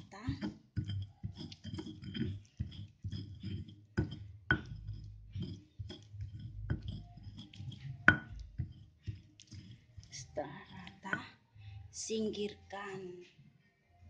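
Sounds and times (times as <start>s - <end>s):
pestle scraping in stone mortar: 0.0s - 11.3s
stone knocking on stone: 0.0s - 11.3s.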